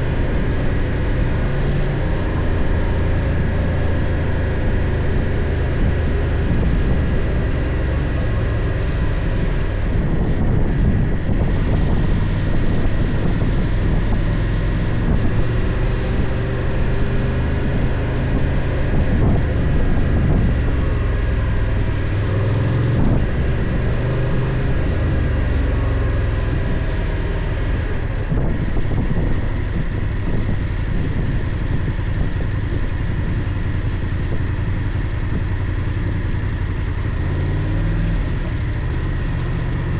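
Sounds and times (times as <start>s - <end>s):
wind rushing over microphone: 0.0s - 36.5s
motorcycle engine running: 0.0s - 39.9s.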